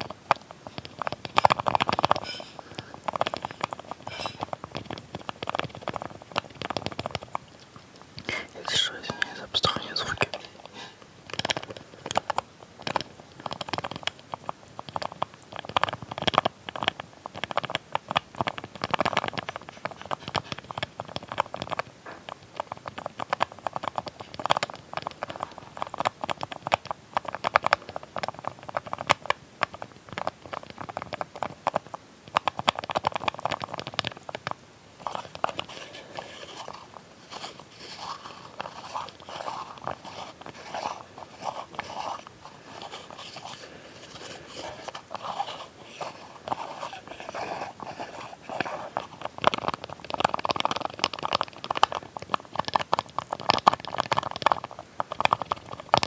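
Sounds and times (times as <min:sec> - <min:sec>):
crackly scratching: 0:00.0 - 0:56.0.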